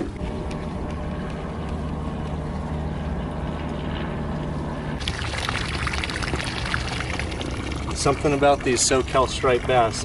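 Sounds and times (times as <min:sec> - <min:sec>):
boat engine idling: 0:00.0 - 0:10.0
water splashing and sloshing: 0:00.0 - 0:10.0.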